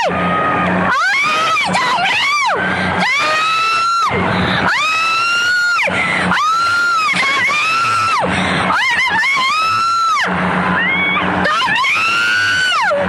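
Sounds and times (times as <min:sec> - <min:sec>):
woman screaming: 0:00.9 - 0:12.9.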